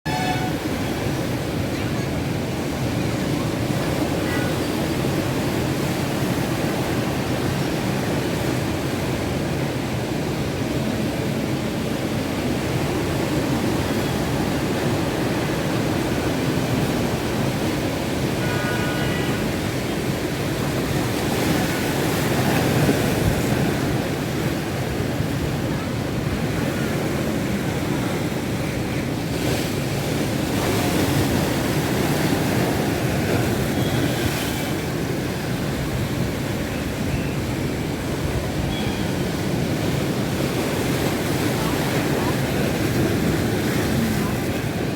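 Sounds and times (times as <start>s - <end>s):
wind: 0.0s - 44.9s
sea surf breaking: 0.1s - 44.9s.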